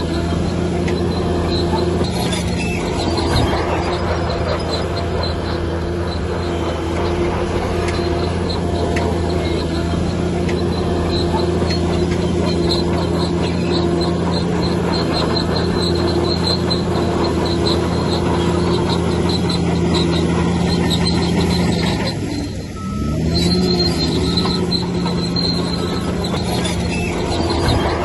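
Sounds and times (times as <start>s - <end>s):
bulldozer diesel engine running: 0.0s - 28.0s
crawler tracks squeaking: 0.0s - 28.0s.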